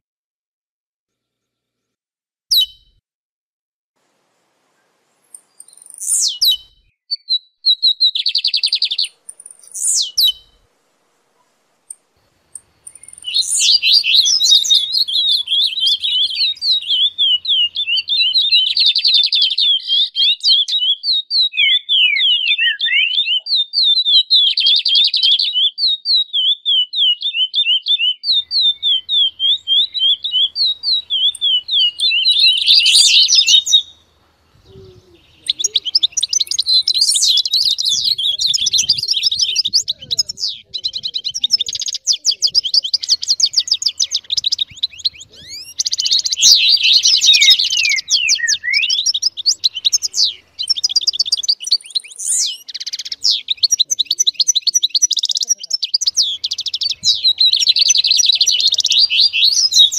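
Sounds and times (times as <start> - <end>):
songbird singing: 2.5 - 3.0, 4.0 - 59.9.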